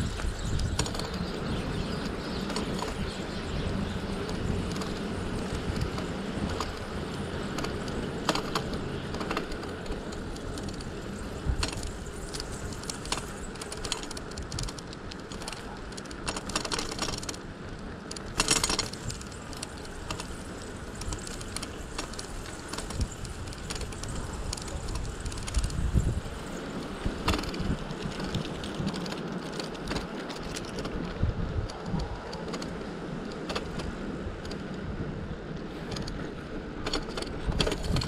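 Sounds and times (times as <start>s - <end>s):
bicycle tyre and wind rush: 0.0s - 38.0s
bike rattling and clicking: 0.0s - 38.0s.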